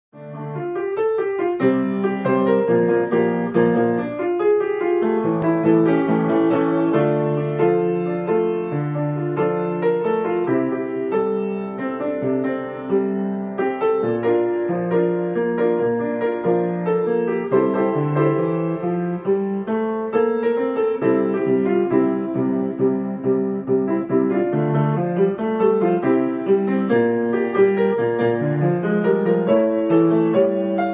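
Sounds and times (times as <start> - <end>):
piano music: 0.1 - 30.9.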